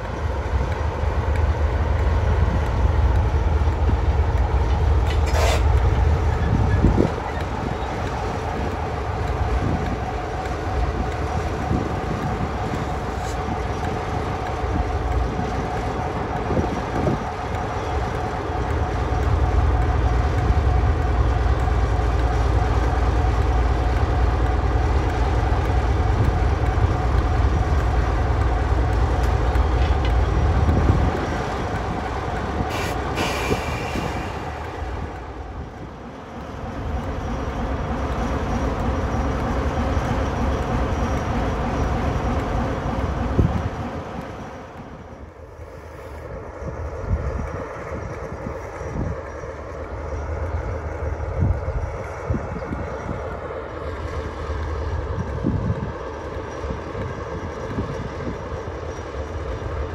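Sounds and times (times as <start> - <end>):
diesel locomotive engine rumbling: 0.0 - 59.9.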